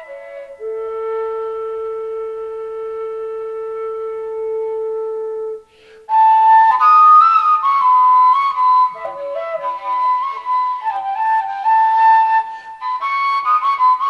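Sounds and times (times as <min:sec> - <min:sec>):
flute melody: 0:00.0 - 0:14.0.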